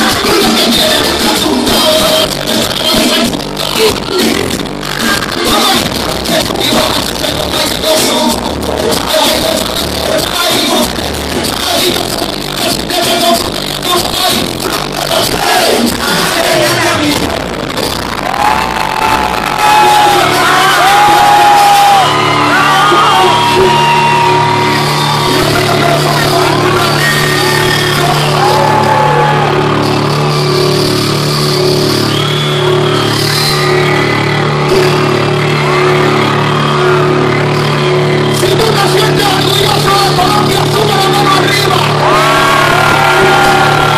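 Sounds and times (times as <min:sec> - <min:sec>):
live reggaeton music: 0:00.0 - 0:43.9
steady bass line: 0:00.0 - 0:43.9.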